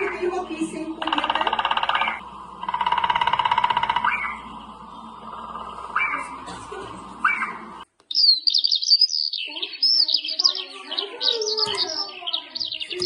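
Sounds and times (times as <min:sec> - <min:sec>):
high bird chirps and trills: 0:00.0 - 0:06.5, 0:07.2 - 0:13.0
low bird warbling: 0:00.0 - 0:13.0.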